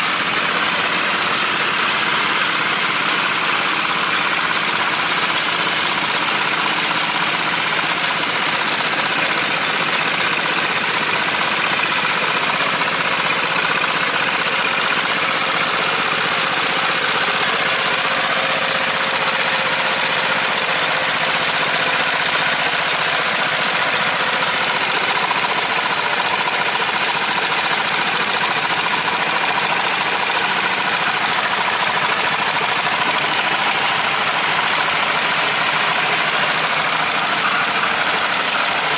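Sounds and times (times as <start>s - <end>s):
small engine chugging: 0.0s - 38.9s.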